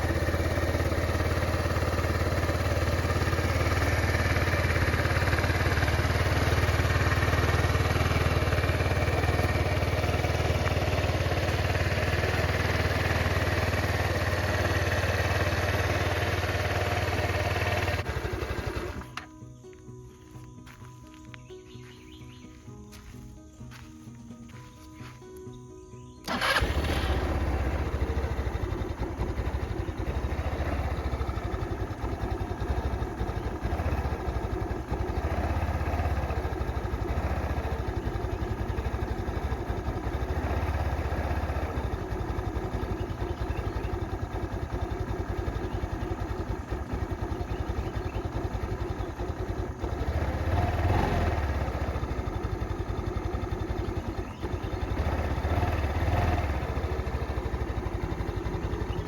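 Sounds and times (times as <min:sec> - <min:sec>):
scooter engine starting unevenly: 0:00.0 - 0:19.6, 0:26.2 - 0:59.0.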